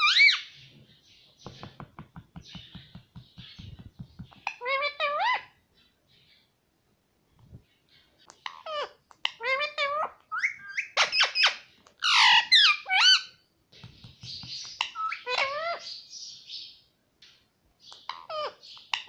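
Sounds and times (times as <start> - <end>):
parakeet calling and chattering: 0.0 - 6.5, 7.5 - 16.9, 17.8 - 19.0.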